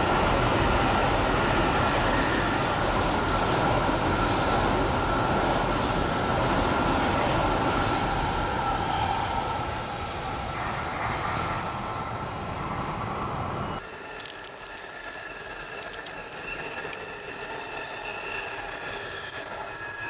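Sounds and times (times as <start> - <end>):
train rail rumble: 0.0 - 20.0.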